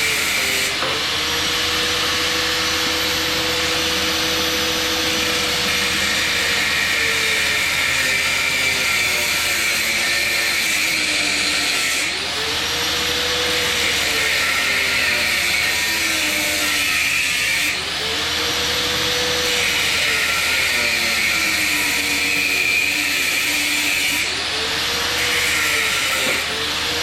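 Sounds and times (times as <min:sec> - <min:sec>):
power tool cutting metal: 0:00.0 - 0:27.0.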